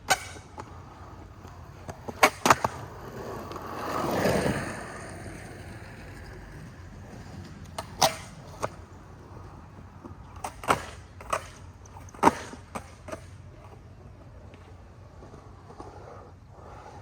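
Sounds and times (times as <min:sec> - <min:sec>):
skateboard deck clacking on ground: 0:00.0 - 0:17.0.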